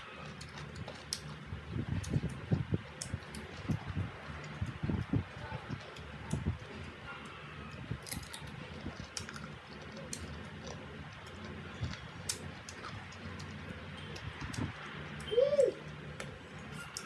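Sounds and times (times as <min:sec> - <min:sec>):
crunchy chewing: 0:00.0 - 0:07.0, 0:07.7 - 0:15.3
steady low hum: 0:00.0 - 0:17.0.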